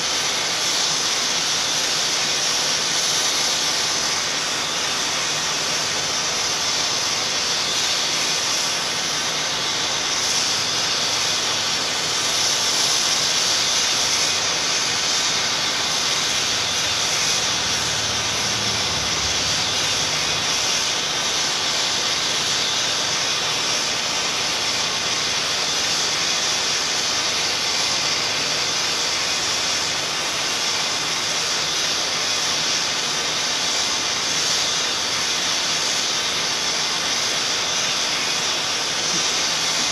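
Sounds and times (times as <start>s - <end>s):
steady loud hissing: 0.0s - 39.9s.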